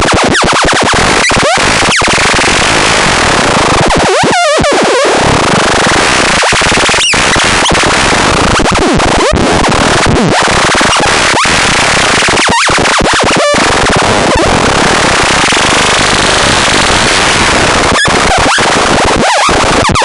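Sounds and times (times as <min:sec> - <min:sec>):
harsh crackling buzz: 0:00.0 - 0:20.0.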